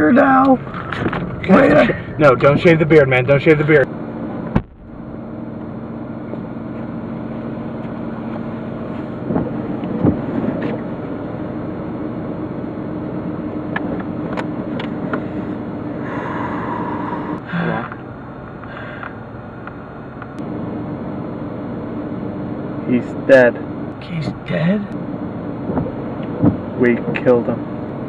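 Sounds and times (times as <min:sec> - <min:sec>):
car engine hum: 0:00.0 - 0:28.0
road noise: 0:00.0 - 0:28.0.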